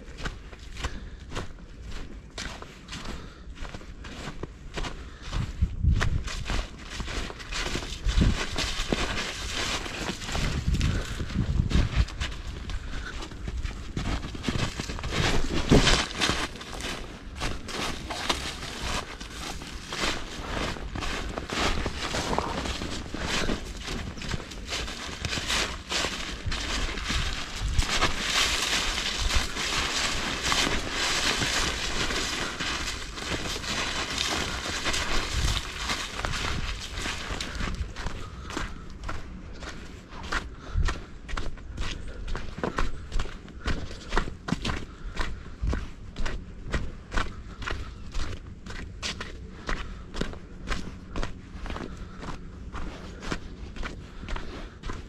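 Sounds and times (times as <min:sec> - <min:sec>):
footsteps crunching in snow: 0:00.0 - 0:55.0.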